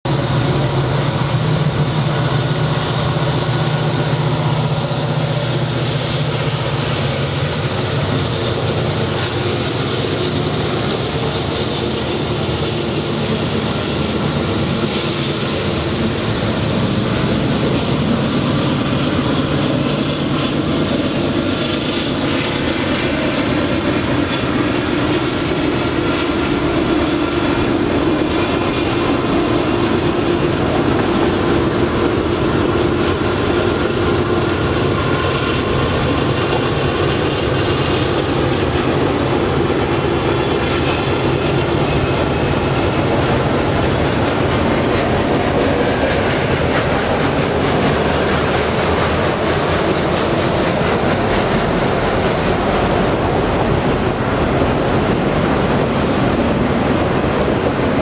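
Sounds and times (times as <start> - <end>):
diesel locomotive engine drone: 0.0 - 58.0
freight cars rumbling on rails: 0.0 - 58.0.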